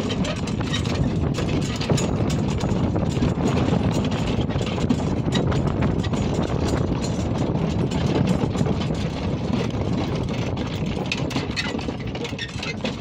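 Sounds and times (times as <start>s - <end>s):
cart wheels crunching on gravel: 0.0s - 13.0s
harness chains clattering: 0.0s - 13.0s
horse hooves clattering: 0.0s - 13.0s.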